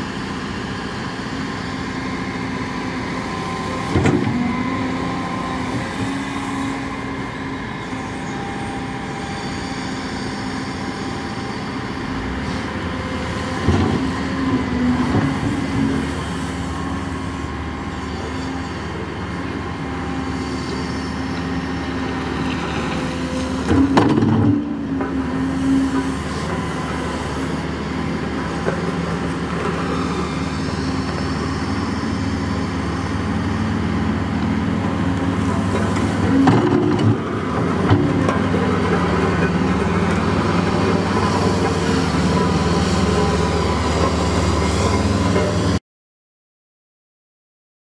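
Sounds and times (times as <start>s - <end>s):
excavator diesel engine running: 0.0s - 45.8s.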